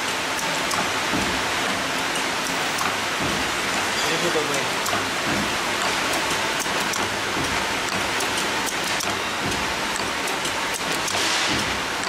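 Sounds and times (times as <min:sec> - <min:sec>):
machine hissing clatter: 0:00.0 - 0:12.0.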